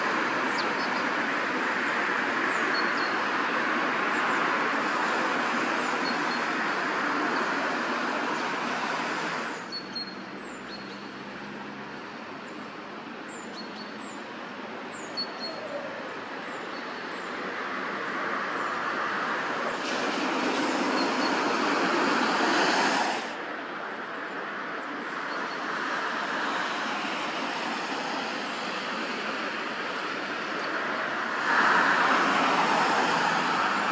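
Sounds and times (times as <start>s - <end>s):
distant road traffic: 0.0s - 33.9s.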